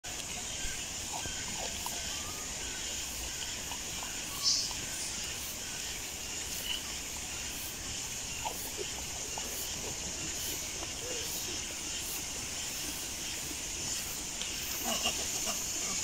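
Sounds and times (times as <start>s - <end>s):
steady outdoor hiss: 0.0s - 16.0s
faint chirps: 0.1s - 16.0s.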